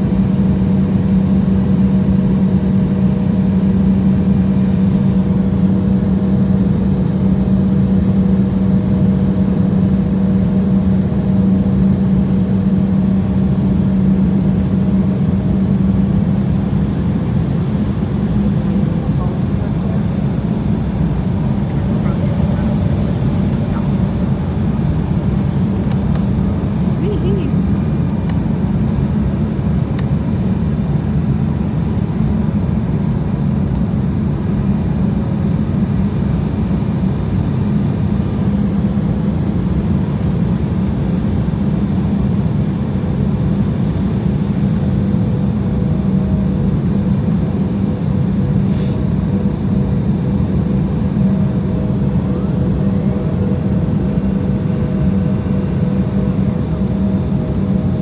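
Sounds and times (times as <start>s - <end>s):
jet engine roar inside cabin: 0.0s - 58.0s.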